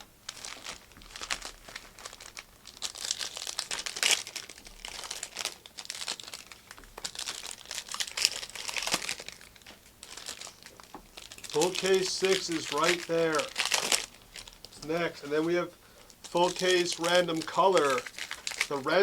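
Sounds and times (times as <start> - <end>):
plastic wrappers crinkling and tearing: 0.0 - 19.0.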